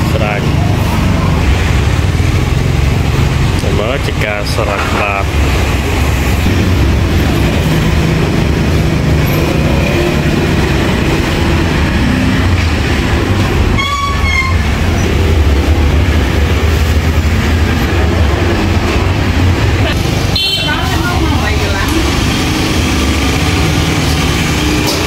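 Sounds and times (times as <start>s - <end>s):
vehicle traffic rumble: 0.0s - 25.0s.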